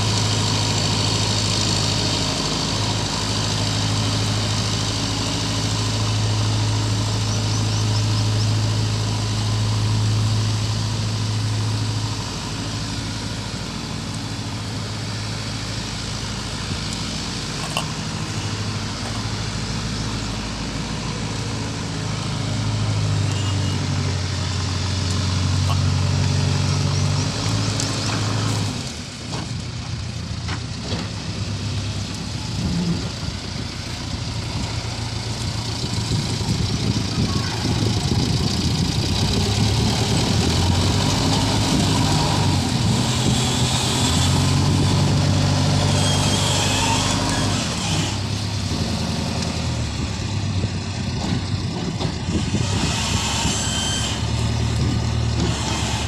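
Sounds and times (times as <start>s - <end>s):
backhoe loader diesel engine: 0.0s - 56.0s.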